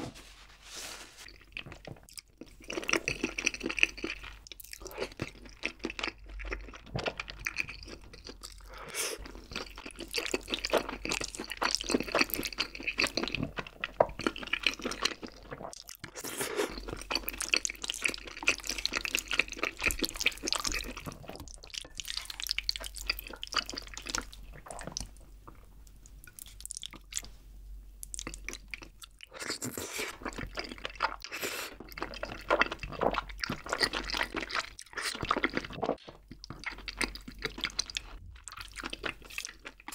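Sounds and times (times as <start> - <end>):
wet chewing and smacking: 1.3 - 27.4, 28.0 - 39.9.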